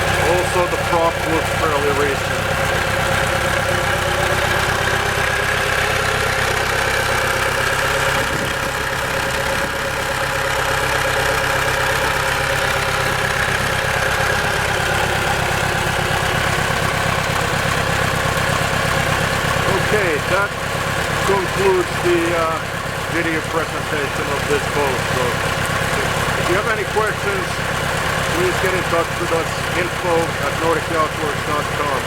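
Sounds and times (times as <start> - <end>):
boat engine idling: 0.0 - 32.0.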